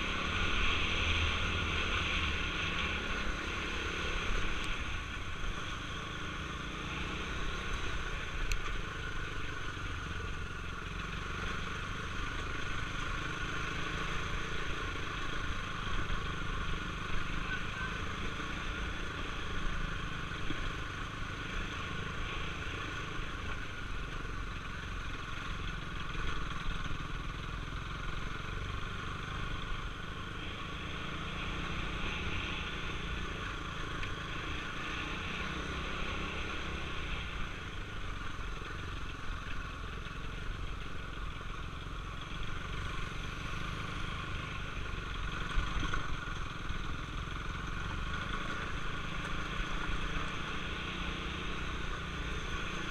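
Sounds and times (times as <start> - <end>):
motorcycle engine running: 0.0 - 52.9
motorcycle rattling over bumps: 0.0 - 52.9.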